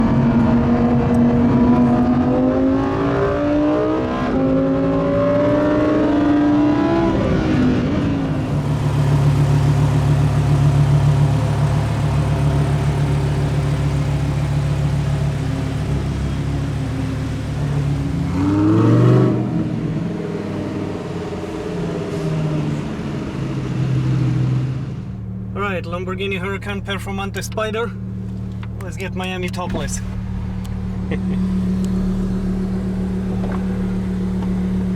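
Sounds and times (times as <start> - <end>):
sports car engine accelerating: 0.0 - 34.9.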